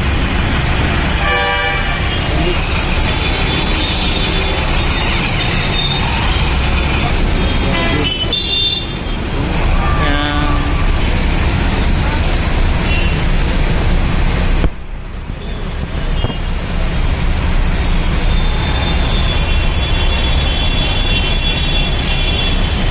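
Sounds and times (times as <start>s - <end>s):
heavy rain: 0.0s - 22.9s
road traffic on wet street: 0.0s - 22.9s.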